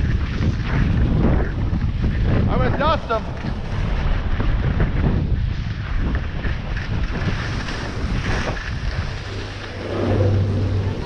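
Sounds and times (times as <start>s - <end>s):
skis sliding on hard snow: 0.0s - 11.0s
wind buffeting microphone: 0.0s - 11.0s.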